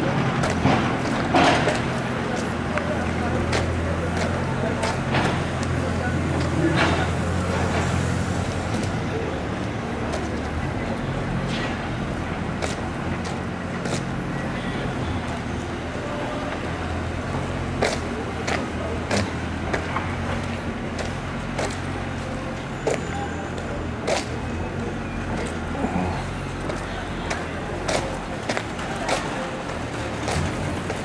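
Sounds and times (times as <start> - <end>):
motor vehicles humming: 0.0 - 31.0.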